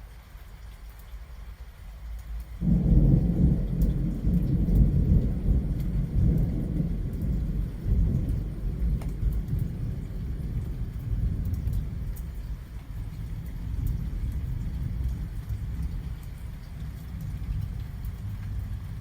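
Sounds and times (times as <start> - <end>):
rain falling: 0.0 - 19.0
thunder clap and rumble: 2.6 - 19.0.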